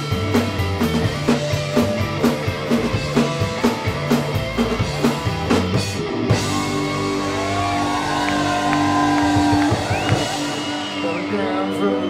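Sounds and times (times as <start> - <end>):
bass guitar: 0.0 - 12.0
drums and cymbals: 0.0 - 12.0
electric guitar: 0.0 - 12.0.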